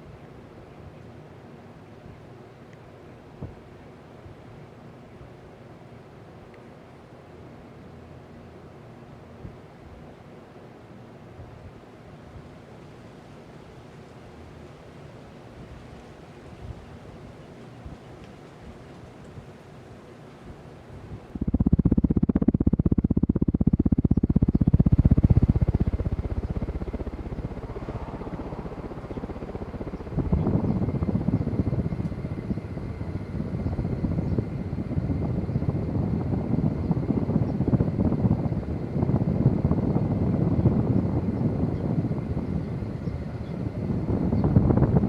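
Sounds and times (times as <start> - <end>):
fan wind buffeting microphone: 0.0 - 45.0.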